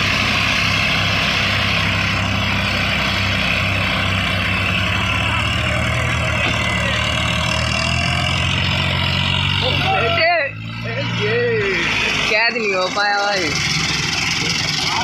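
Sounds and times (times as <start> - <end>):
tractor diesel engine drone: 0.0 - 15.0.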